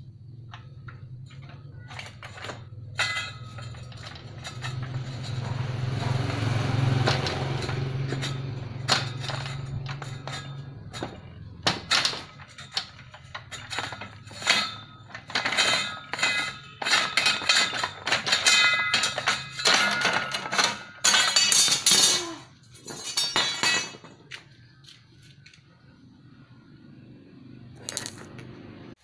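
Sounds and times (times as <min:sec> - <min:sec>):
metallic clanks from rolling machine: 0:00.5 - 0:24.4.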